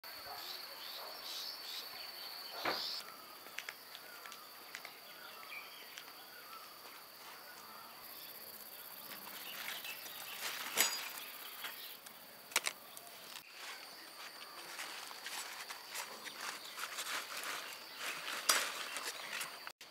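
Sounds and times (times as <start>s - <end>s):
faint bird chirps: 0.2s - 19.6s.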